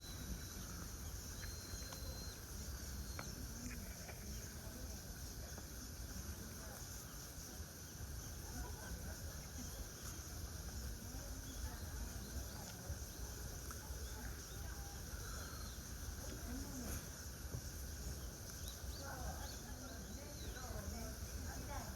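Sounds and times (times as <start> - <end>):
faint distant voices: 0.0 - 21.9.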